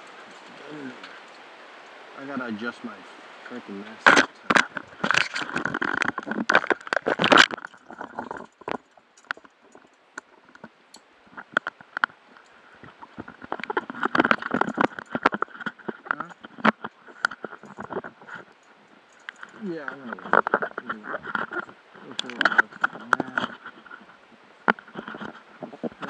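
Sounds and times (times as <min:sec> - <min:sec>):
gear clicking and rubbing on camera: 0:04.0 - 0:26.0.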